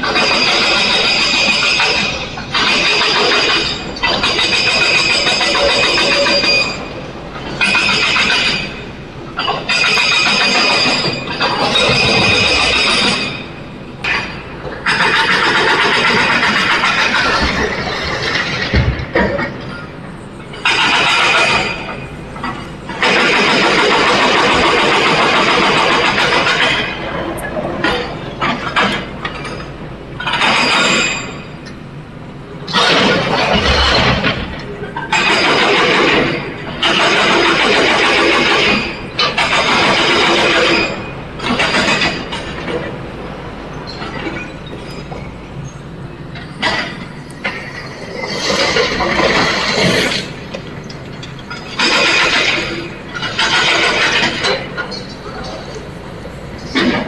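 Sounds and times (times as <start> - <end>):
heavy diesel engine: 0.0 - 57.0
heavy machine rumble: 0.0 - 57.0
rattling noise: 0.0 - 57.0.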